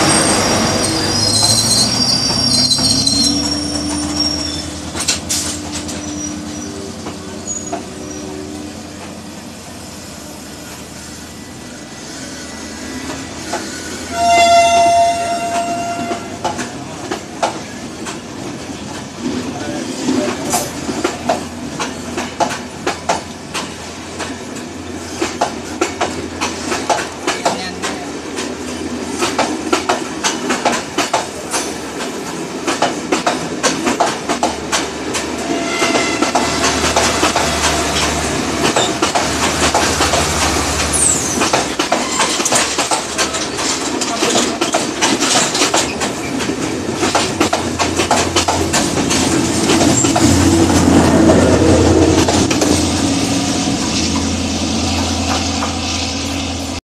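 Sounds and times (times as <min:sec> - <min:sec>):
train wheels clattering over rails: 0:00.0 - 0:09.3, 0:13.0 - 0:14.0, 0:15.2 - 0:55.8.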